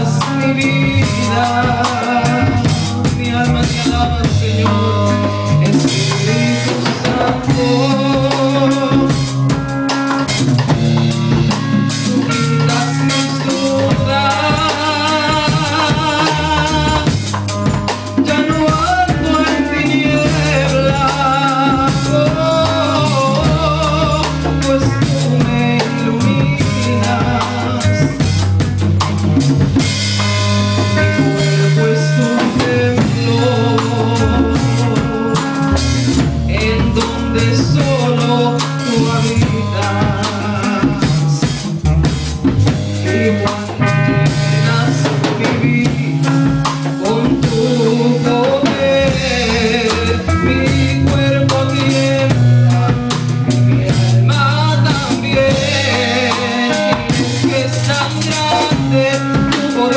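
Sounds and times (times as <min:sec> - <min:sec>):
woman singing into microphone: 0:00.0 - 0:28.6, 0:30.6 - 0:59.9
drum kit beat: 0:00.0 - 0:59.9
electric bass line: 0:00.0 - 0:59.9
keyboard chords: 0:00.0 - 0:59.9.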